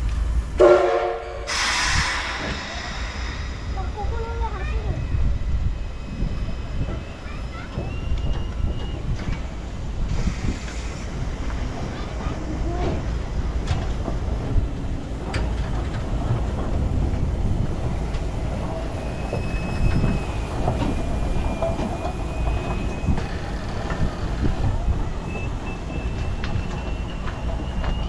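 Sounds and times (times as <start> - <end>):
train rumbling with sharp clicks: 0.0 - 28.0.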